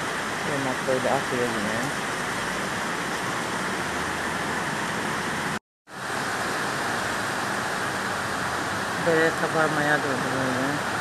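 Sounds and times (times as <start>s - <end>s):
swollen stream rushing: 0.0s - 11.0s
torrential downpour: 0.0s - 11.0s.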